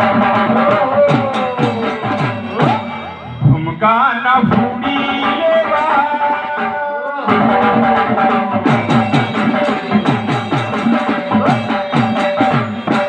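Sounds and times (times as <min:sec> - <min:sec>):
drum strokes: 0:00.0 - 0:13.0
melodic instrument long notes: 0:00.0 - 0:13.0.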